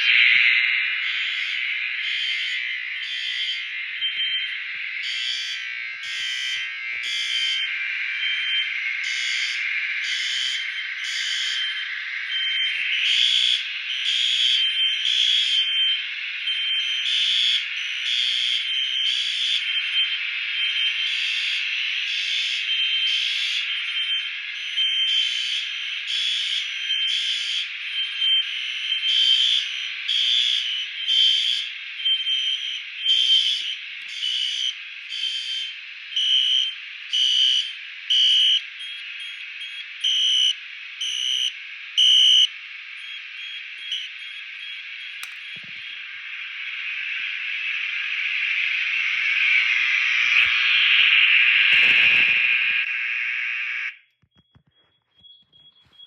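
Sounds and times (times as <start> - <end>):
rapid pulsing beeps: 0.0 - 46.0, 54.2 - 56.0
steady electronic alarm tone: 0.0 - 46.1.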